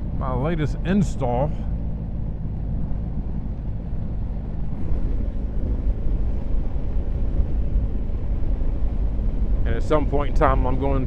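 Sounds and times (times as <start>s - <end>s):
wind buffeting microphone: 1.6s - 11.0s.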